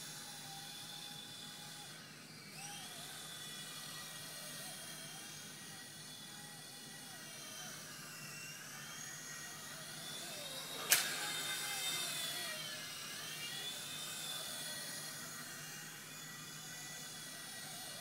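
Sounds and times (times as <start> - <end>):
toy helicopter motors whining: 0.0 - 18.0.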